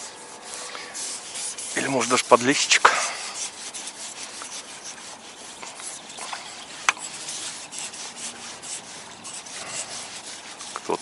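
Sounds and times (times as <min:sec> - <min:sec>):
clothing rubbing on microphone: 0:00.0 - 0:11.0.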